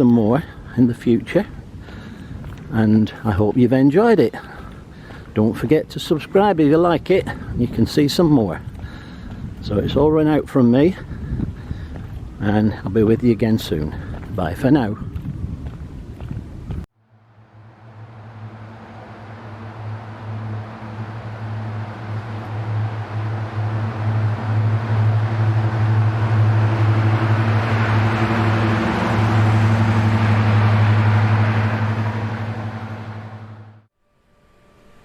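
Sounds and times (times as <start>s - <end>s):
rushing noise: 0.0s - 33.9s
vehicle engine humming: 0.0s - 35.0s.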